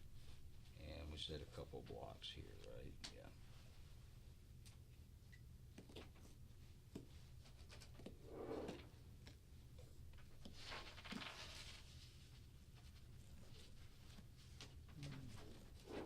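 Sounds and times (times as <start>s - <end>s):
low steady hum: 0.0s - 10.6s, 11.6s - 16.0s.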